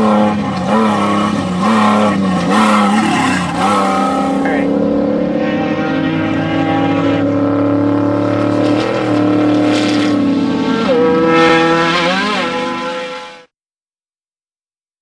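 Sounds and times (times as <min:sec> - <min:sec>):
race vehicle engine revving: 0:00.0 - 0:13.5.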